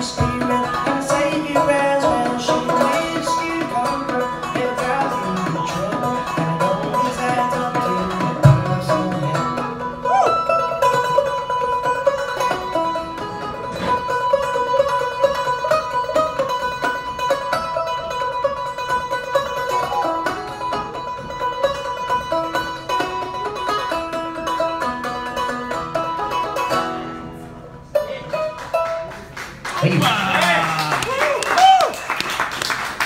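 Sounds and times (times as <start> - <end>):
banjo picking fast notes: 0.0 - 29.2.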